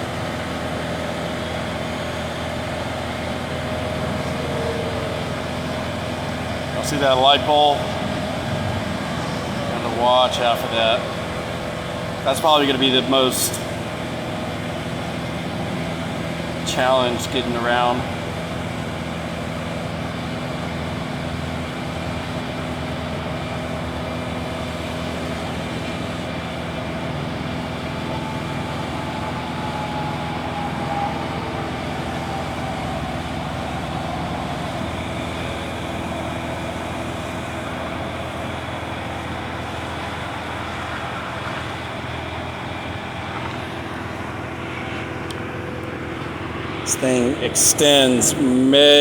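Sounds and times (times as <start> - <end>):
lift engine running under load: 0.0 - 49.0.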